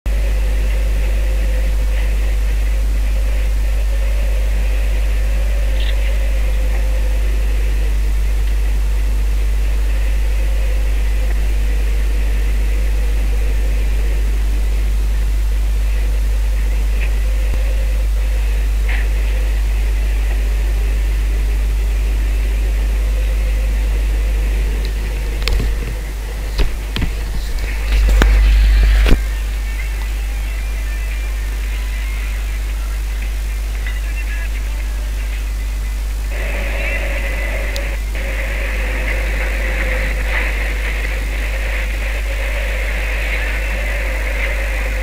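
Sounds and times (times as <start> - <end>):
deep humming drone with hiss: 0.1 - 45.0.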